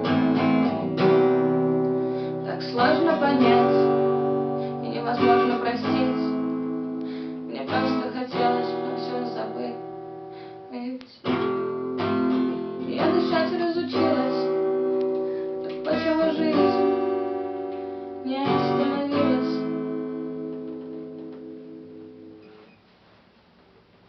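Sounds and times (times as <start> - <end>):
guitar chords strummed: 0.0 - 10.6, 11.3 - 22.7.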